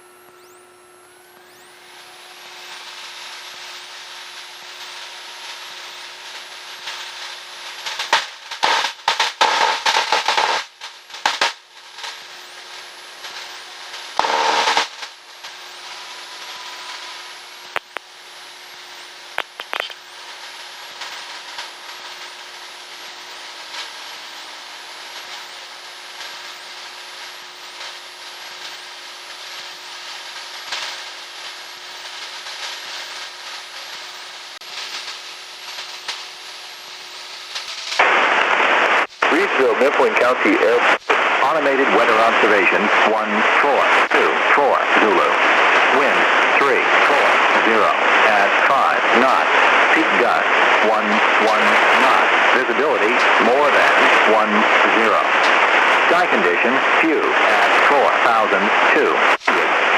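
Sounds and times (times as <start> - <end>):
loud crackling bursts: 1.6 - 59.9.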